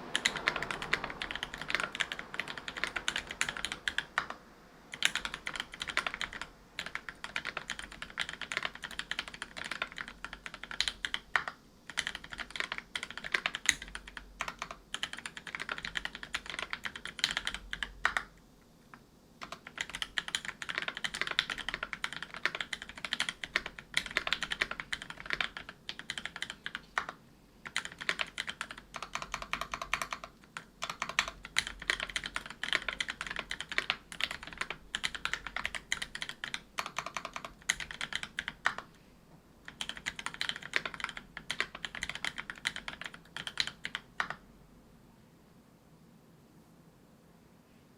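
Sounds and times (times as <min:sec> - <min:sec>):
mechanical keyboard typing: 0:00.0 - 0:18.4, 0:19.4 - 0:39.0, 0:39.6 - 0:44.4.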